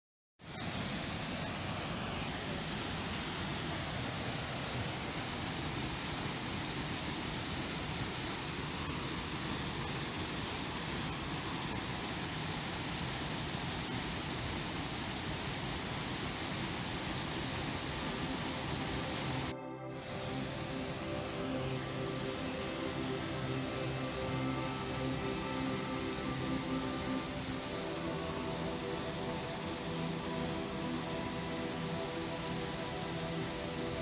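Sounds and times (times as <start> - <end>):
waterfall rushing: 0.4 - 34.0.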